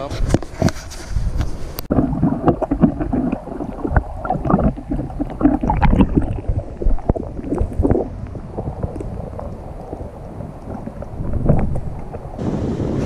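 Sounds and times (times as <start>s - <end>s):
river water sloshing and gurgling: 1.9s - 12.4s.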